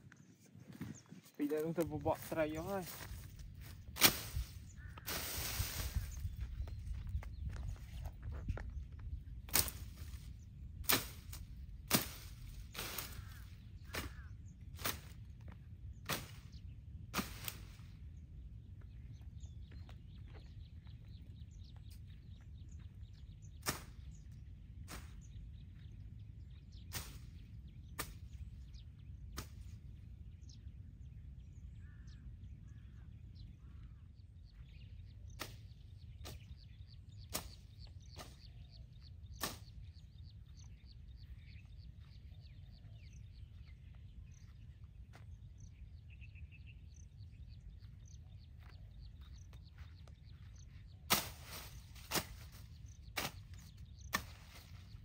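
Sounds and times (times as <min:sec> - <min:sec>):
faint bird chirps: 0:00.0 - 0:55.0.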